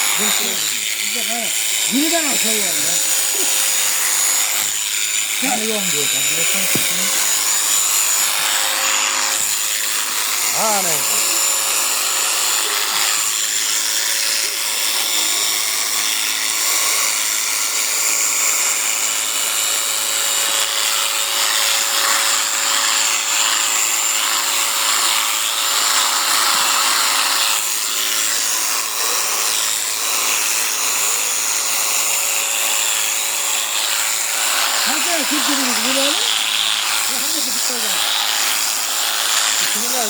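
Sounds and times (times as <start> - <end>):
electric clippers running: 0.0 - 40.0.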